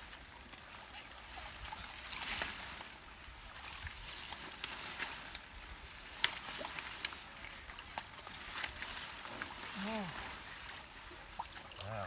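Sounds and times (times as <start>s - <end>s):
leaves rustling: 0.0s - 12.0s
water sloshing and splashing: 0.0s - 12.0s.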